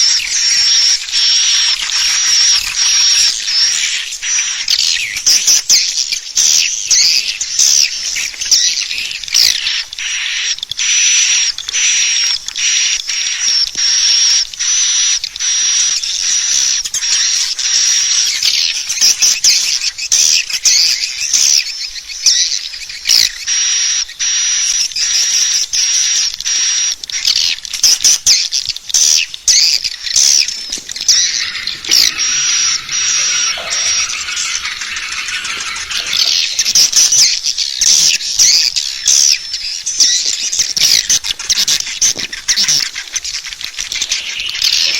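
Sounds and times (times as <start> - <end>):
swiftlets chirping and twittering: 0.0 - 25.5, 27.1 - 44.9.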